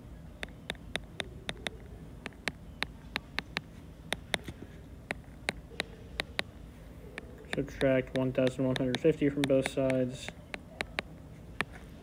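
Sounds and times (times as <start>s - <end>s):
stylus tapping on glass screen: 0.4s - 4.5s, 5.1s - 6.5s, 7.2s - 11.7s.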